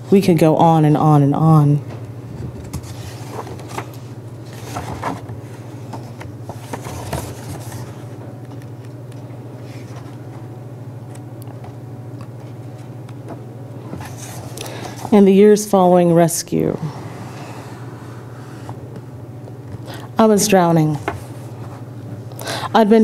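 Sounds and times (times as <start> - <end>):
sound system hum: 0.0 - 23.0.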